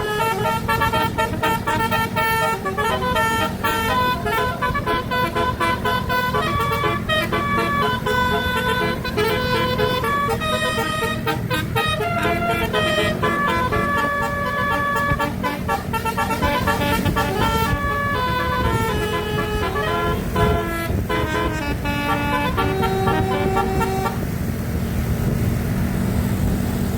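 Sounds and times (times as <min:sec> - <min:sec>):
musical bus horn melody: 0:00.0 - 0:24.5.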